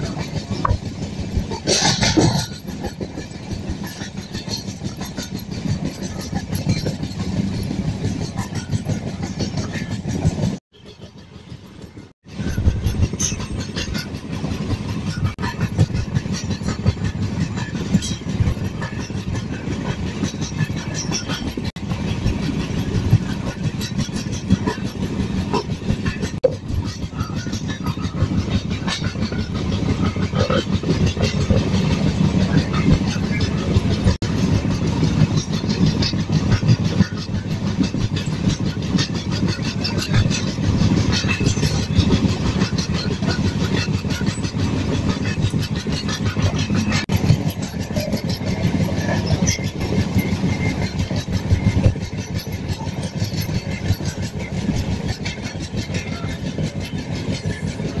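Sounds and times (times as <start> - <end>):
train clicks and rattles: 0.0 - 58.0
train wheels rumbling on rails: 0.0 - 58.0.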